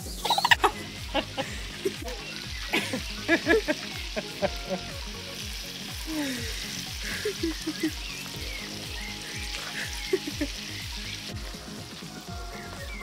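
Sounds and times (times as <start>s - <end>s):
background music with low beat: 0.0s - 13.0s
meat sizzling in a pan: 0.0s - 13.0s.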